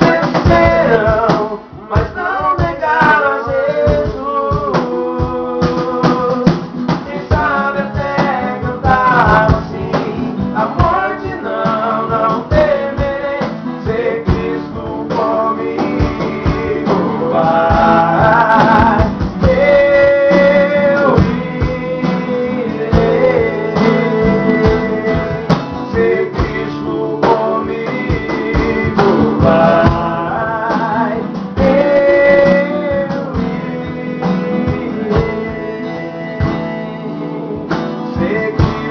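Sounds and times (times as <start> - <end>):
person singing a hymn: 0.0 - 38.9
strummed guitar chords: 0.0 - 38.9.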